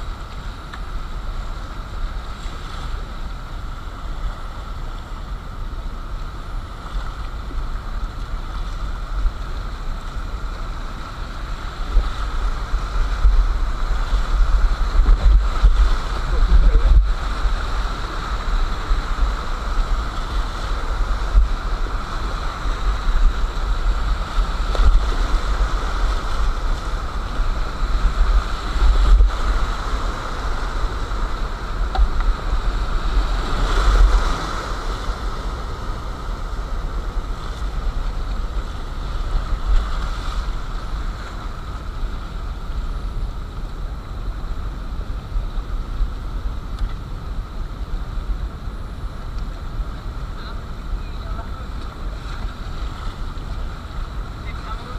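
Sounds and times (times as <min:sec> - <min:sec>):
river rapids rushing: 0:00.0 - 0:54.9
wind buffeting microphone: 0:03.0 - 0:54.9.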